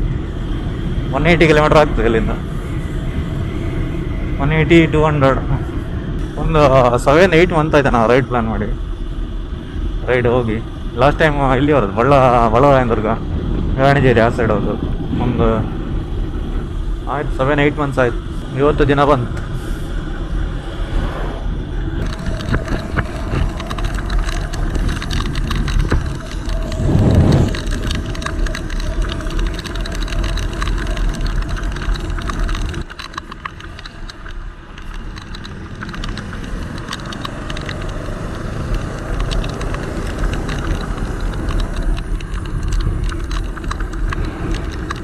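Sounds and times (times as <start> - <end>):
motorcycle engine and road rumble: 0.0 - 45.0
wind rushing over microphone: 0.0 - 45.0.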